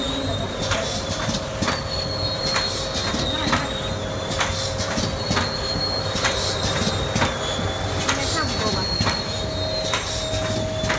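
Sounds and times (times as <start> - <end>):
laminating machine hum and whine: 0.0 - 10.9.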